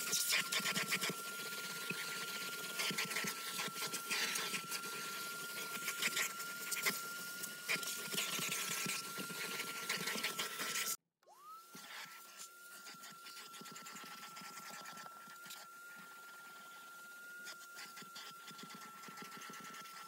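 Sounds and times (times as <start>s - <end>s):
vacuum cleaner whine: 0.0s - 20.0s.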